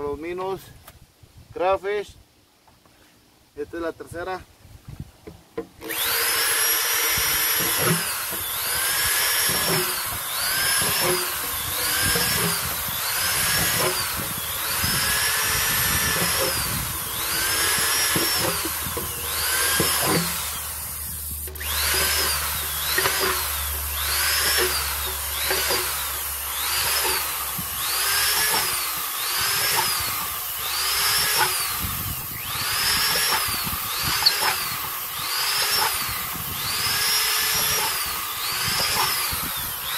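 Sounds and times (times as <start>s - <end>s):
electric drill whine: 5.8s - 39.9s.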